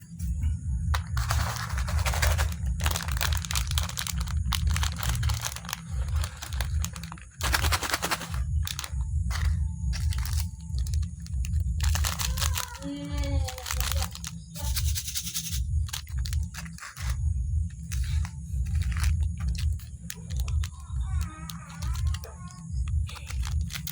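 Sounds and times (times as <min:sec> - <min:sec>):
plastic wrapper crinkling and tearing: 0:01.0 - 0:23.9.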